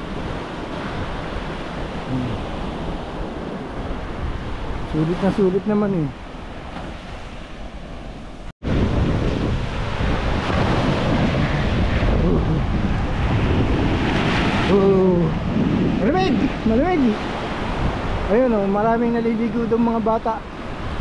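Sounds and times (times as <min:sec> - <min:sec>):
ocean surf: 0:00.0 - 0:21.0
wind buffeting microphone: 0:00.0 - 0:21.0.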